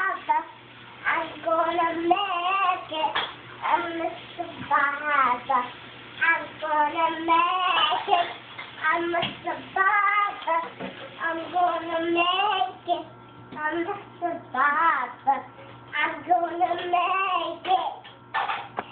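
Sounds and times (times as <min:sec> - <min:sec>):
girl singing: 0:00.0 - 0:18.1.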